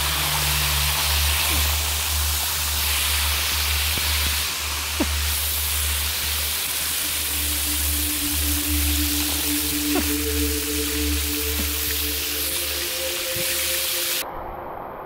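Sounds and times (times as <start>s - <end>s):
waterfall splashing over rock: 0.0s - 14.2s.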